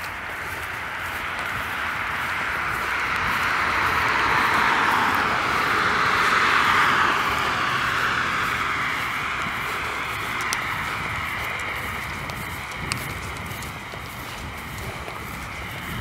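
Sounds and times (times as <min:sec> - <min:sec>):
car driving past: 0:00.2 - 0:13.3.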